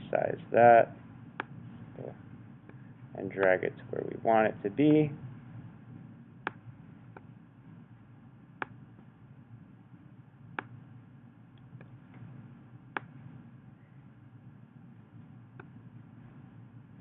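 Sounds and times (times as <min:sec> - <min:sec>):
low steady room hum: 0:00.0 - 0:17.0.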